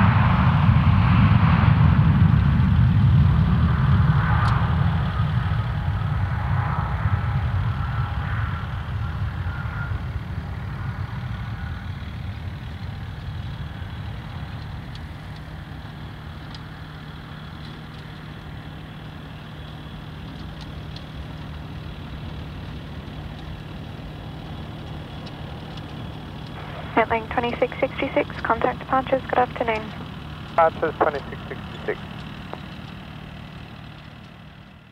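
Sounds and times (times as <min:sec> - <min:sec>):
jet engines at takeoff thrust: 0:00.0 - 0:34.9
steady low hum: 0:00.0 - 0:34.9.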